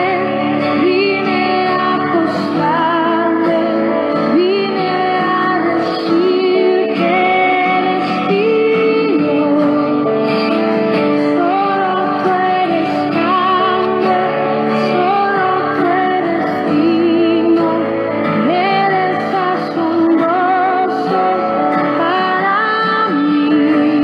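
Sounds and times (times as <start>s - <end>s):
instrumental backing: 0.0s - 24.0s
woman singing with vibrato: 0.0s - 24.0s.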